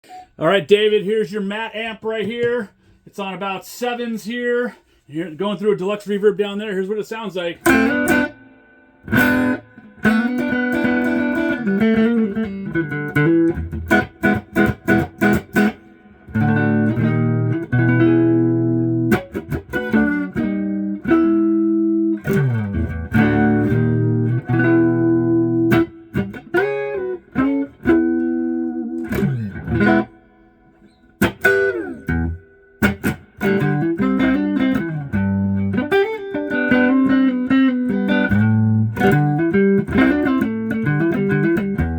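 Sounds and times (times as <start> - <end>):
electric guitar with reverb: 7.3 - 41.9.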